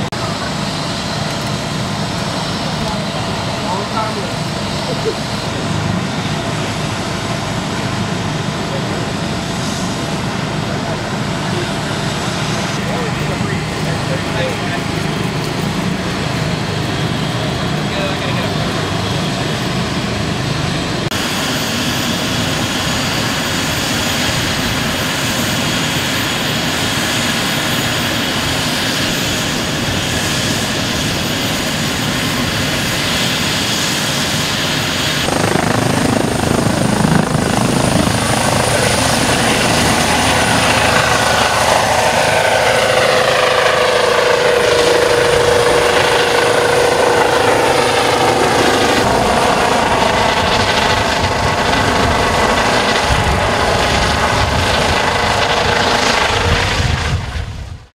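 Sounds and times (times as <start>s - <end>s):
helicopter rotors and turbines: 0.0s - 57.9s
turbine whine: 0.0s - 57.9s.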